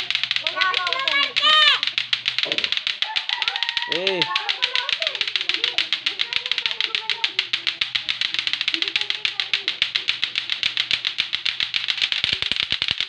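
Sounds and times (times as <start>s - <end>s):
plastic balls clacking: 0.0s - 13.0s.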